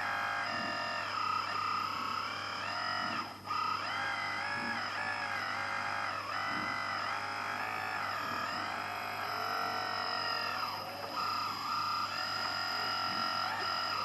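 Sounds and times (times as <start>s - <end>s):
electric hydraulic pump whining: 0.0s - 14.0s.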